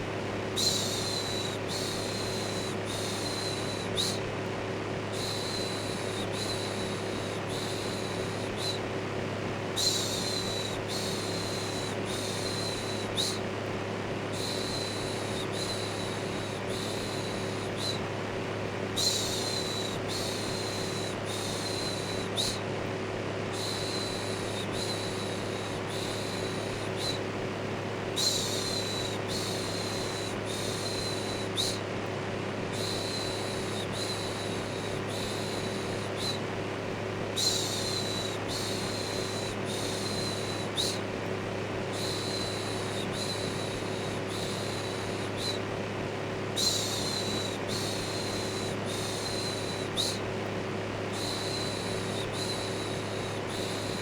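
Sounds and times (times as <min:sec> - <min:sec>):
electric fan hum: 0:00.0 - 0:54.0.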